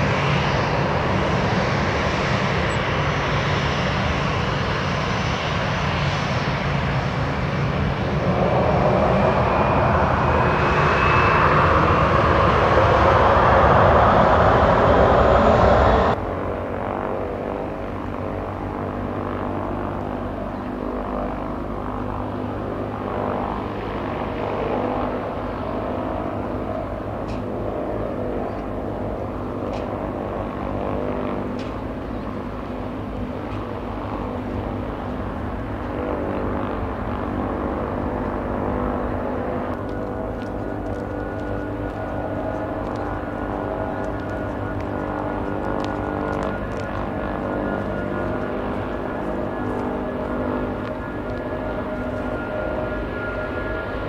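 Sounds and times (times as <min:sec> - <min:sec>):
distant airliner engines droning: 0:00.0 - 0:54.0
jet engines whining: 0:00.0 - 0:54.0.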